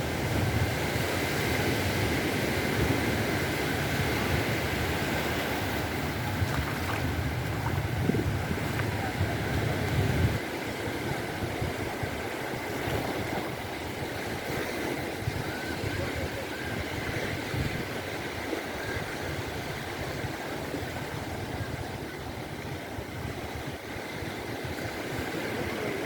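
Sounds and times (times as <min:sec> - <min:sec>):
waves washing onto beach: 0:00.0 - 0:26.0
wind rumbling on microphone: 0:00.0 - 0:26.0.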